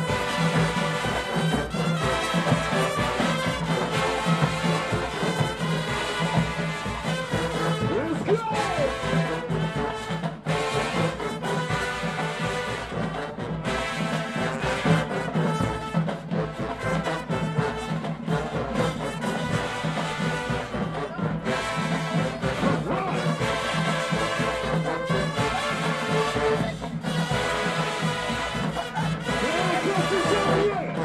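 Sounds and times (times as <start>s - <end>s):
brass section playing: 0.0s - 31.0s
marching drums: 0.0s - 31.0s.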